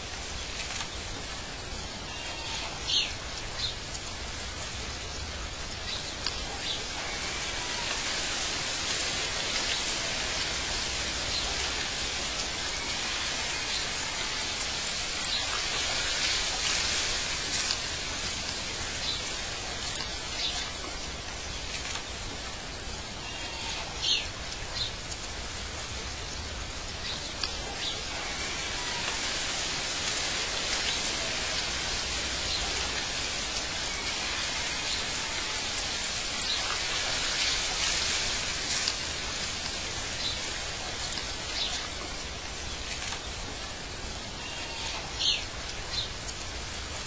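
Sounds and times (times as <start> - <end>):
steady outdoor hiss: 0.0 - 47.0.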